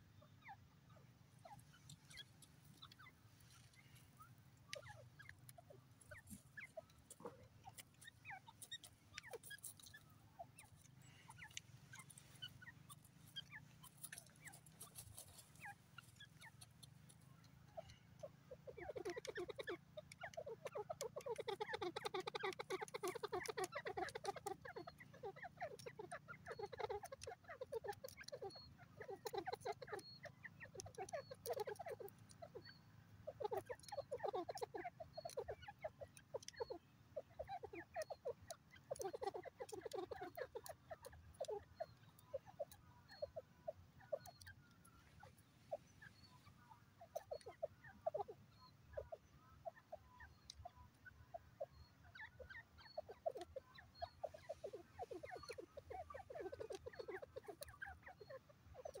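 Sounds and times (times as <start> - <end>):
bird clucking rapidly: 0.0 - 59.0
faint pecking ticks: 0.0 - 59.0.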